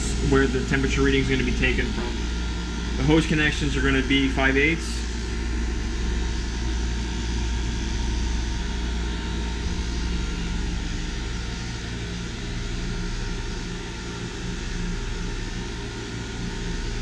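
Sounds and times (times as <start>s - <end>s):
compressor hum: 0.0s - 17.0s.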